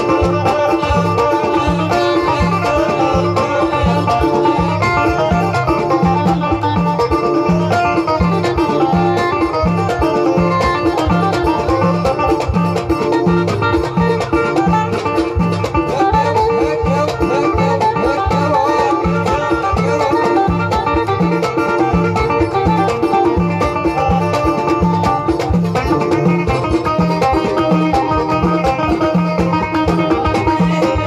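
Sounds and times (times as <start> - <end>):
banjo picking a melody: 0.0 - 31.0
percussion strokes: 0.0 - 31.0.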